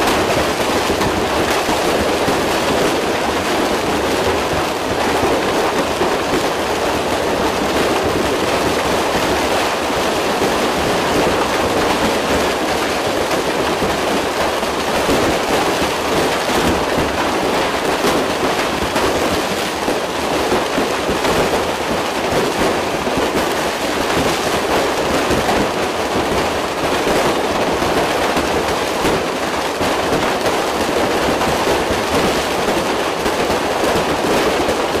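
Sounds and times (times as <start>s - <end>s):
fireworks crackling and popping: 0.0s - 35.0s.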